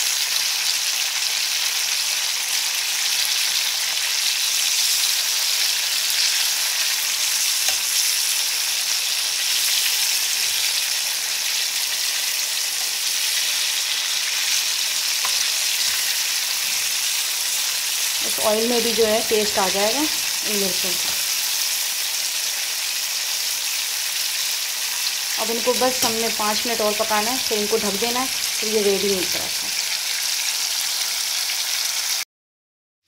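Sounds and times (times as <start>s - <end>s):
chillies sizzling in hot oil: 0.0s - 32.2s.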